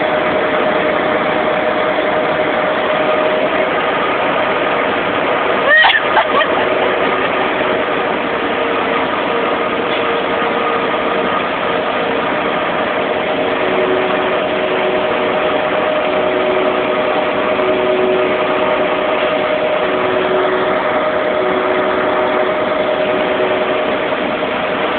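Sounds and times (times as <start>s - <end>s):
steady tones: 0.0s - 24.9s
truck diesel engine running: 0.0s - 24.9s.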